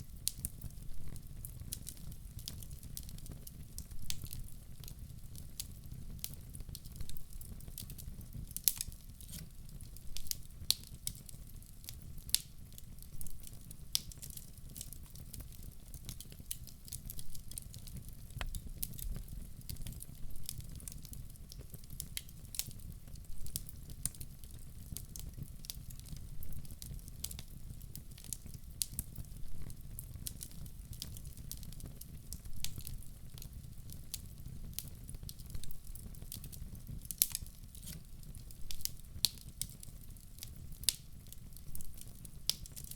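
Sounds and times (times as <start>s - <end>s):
fireplace fire crackling: 0.0s - 42.9s.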